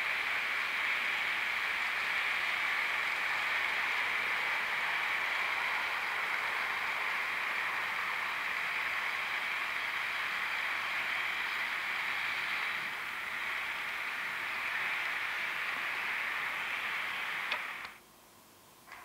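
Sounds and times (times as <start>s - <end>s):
model train wheels whirring on track: 0.0s - 18.0s.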